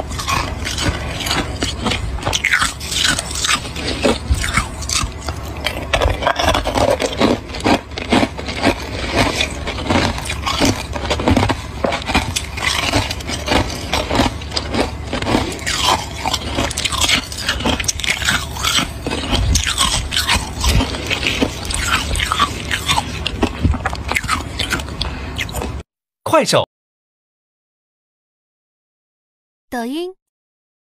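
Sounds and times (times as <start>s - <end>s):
ice being chewed: 0.0s - 25.8s.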